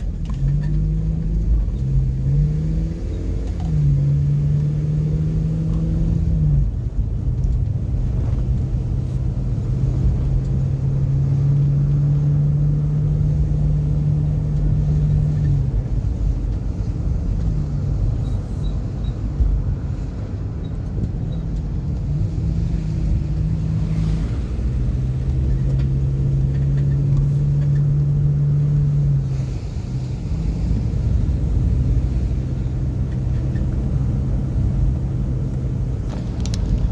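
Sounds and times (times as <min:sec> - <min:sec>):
car engine humming: 0:00.0 - 0:36.9
road rumble: 0:00.0 - 0:36.9.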